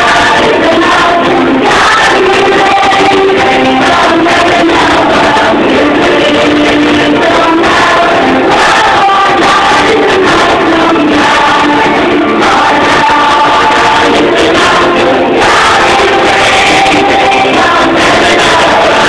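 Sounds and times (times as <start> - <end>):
children singing worship song: 0.0 - 19.0.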